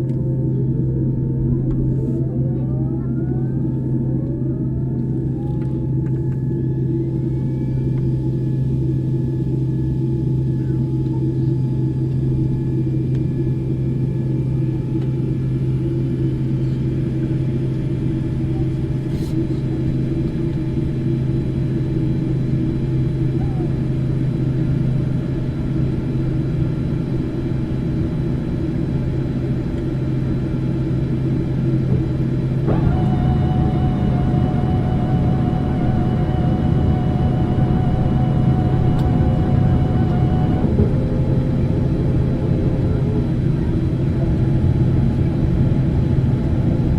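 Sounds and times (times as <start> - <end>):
faint engine whines: 0.0 - 46.9
higher engine whine: 0.0 - 46.9
jet engines droning: 0.0 - 46.9.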